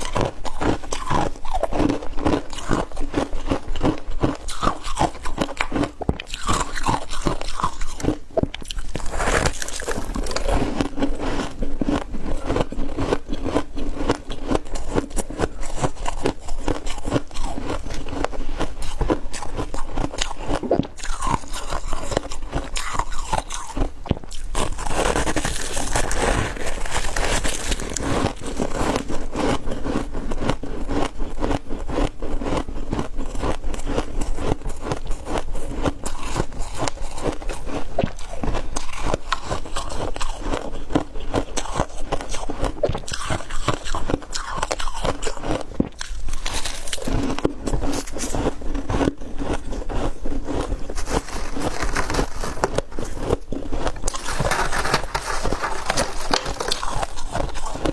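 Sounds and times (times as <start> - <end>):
ice being chewed: 0.0 - 57.9.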